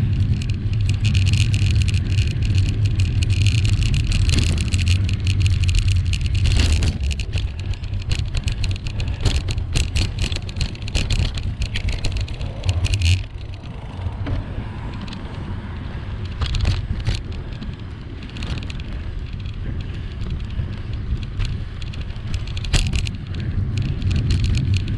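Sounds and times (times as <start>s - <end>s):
bicycle clicks and rattles: 0.0s - 24.9s
tyre noise on road: 0.0s - 24.9s
wind rumbling on microphone: 0.0s - 24.9s.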